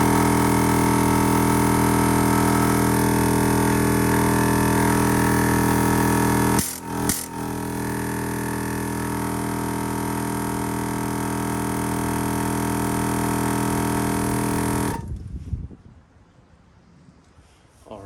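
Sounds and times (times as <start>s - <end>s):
air compressor humming: 0.0s - 15.3s.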